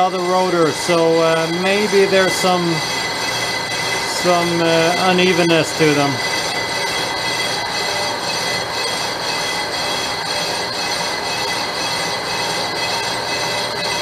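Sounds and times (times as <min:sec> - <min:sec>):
lathe cutting metal ringing: 0:00.0 - 0:14.0
lathe running: 0:00.0 - 0:14.0.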